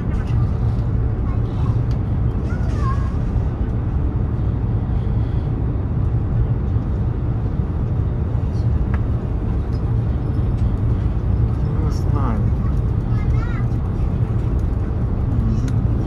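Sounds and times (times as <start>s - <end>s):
train rumbling inside passenger car: 0.0s - 16.0s.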